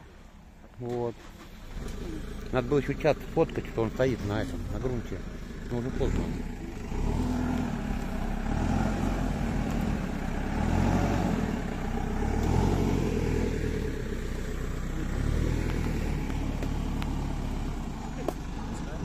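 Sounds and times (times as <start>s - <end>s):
tractor diesel engine driving past: 0.0s - 19.0s.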